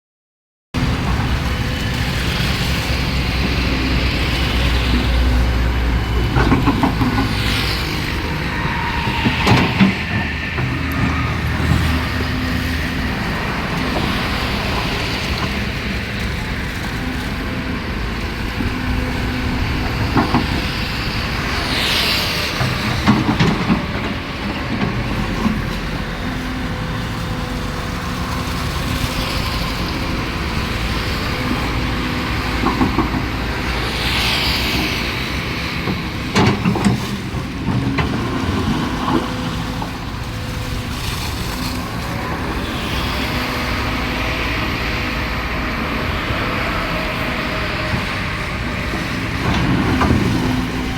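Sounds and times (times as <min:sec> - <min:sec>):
excavator diesel engine running: 0:00.8 - 0:50.9.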